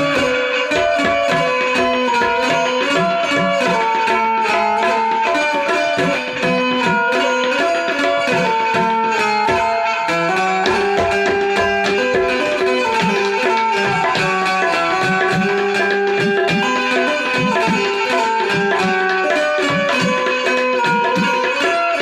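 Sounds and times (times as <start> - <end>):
fast tabla rhythm: 0.0 - 22.0
plucked banjo melody: 0.0 - 22.0.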